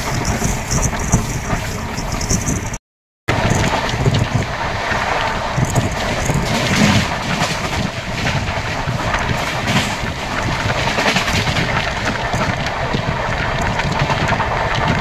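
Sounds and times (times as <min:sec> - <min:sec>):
train rumbling: 0:00.0 - 0:15.0
wheels rattling and clicking: 0:00.0 - 0:15.0
wind on microphone: 0:00.0 - 0:15.0.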